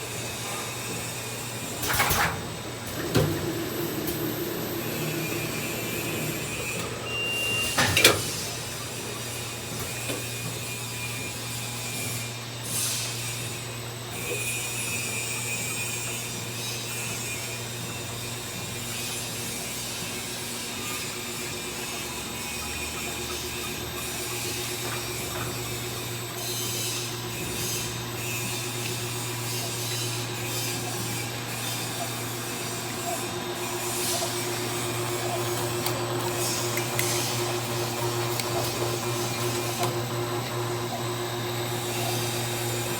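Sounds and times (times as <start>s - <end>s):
packing machinery humming: 0.0s - 11.2s, 17.1s - 42.9s.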